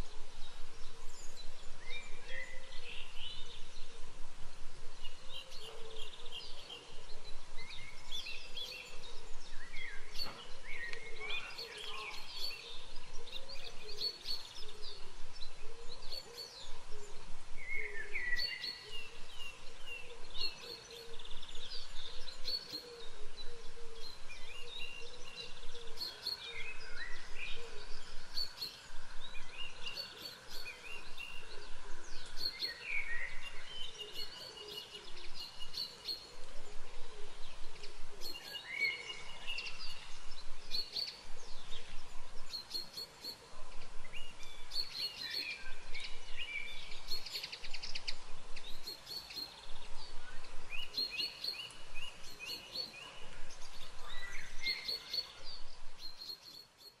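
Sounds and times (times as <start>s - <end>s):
faint outdoor background: 0.0s - 57.0s
songbirds singing and calling: 0.0s - 57.0s.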